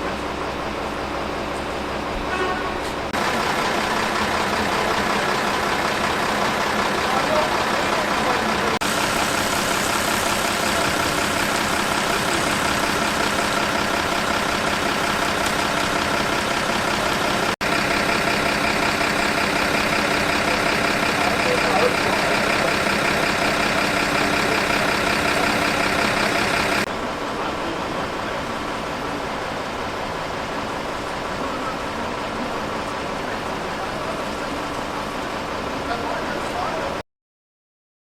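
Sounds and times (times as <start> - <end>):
fire engine diesel engine running: 0.0 - 37.0
voices: 2.3 - 29.7, 30.3 - 37.0.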